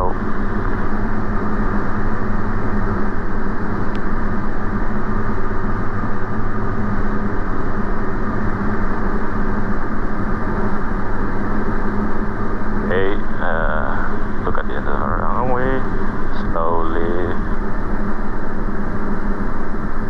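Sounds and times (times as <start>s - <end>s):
aircraft engine and propeller droning: 0.0s - 20.0s.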